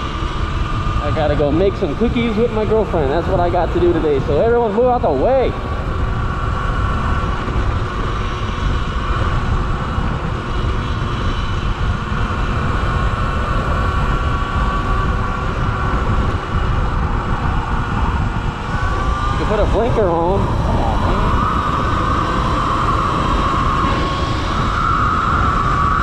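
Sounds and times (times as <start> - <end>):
electric motor whine: 0.0 - 26.0
wind rush on microphone: 0.0 - 26.0.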